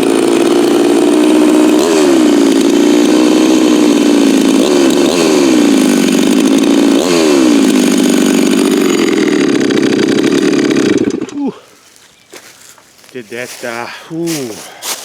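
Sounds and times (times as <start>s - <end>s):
chainsaw cutting at full throttle: 0.0s - 12.0s, 13.7s - 15.0s.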